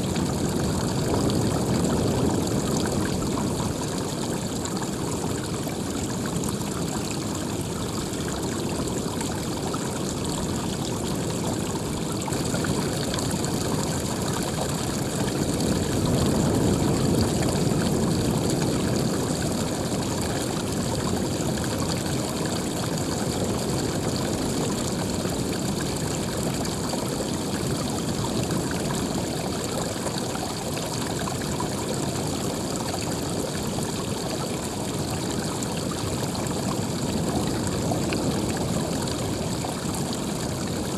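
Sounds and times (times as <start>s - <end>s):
water rushing and splashing: 0.0s - 40.9s.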